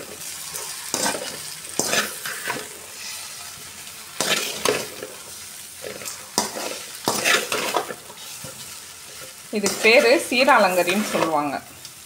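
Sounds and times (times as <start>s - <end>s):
oil sizzling: 0.0s - 12.0s
metal spatula scraping pan: 0.2s - 3.6s, 4.2s - 11.5s.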